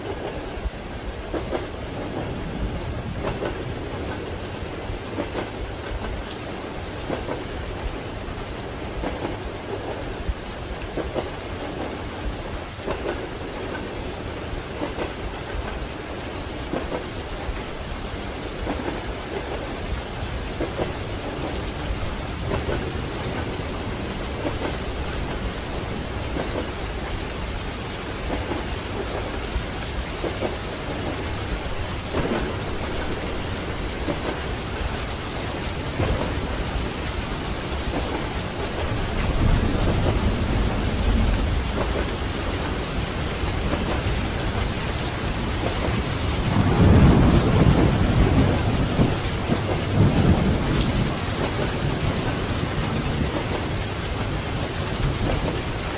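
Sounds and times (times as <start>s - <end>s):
steady rain: 0.0s - 55.9s
train rumbling: 0.0s - 55.9s.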